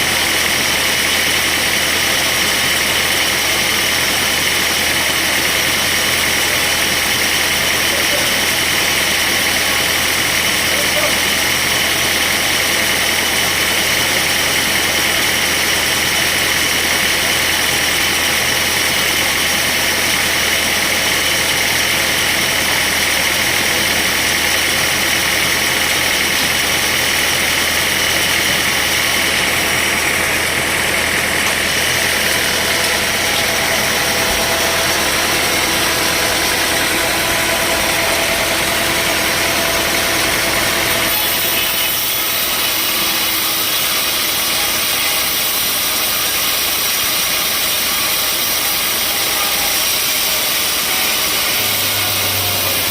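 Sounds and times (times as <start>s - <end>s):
sawmill machinery running: 0.0s - 52.9s.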